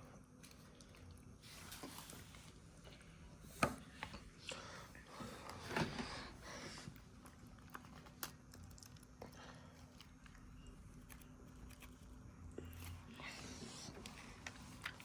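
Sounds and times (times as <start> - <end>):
soft chewing: 0.0 - 5.6, 6.5 - 15.0.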